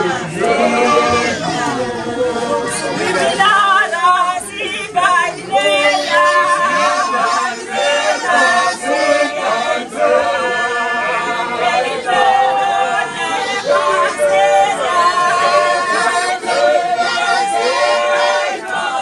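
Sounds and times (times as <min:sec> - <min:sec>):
congregation singing unaccompanied: 0:00.0 - 0:19.0.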